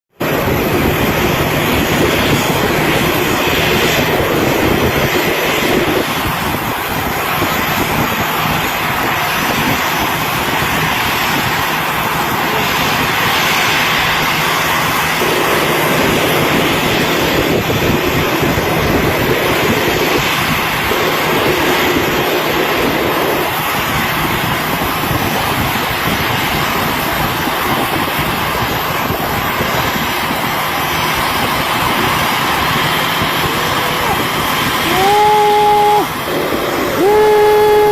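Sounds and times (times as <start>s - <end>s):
airliner jet engines rushing: 0.1s - 37.9s.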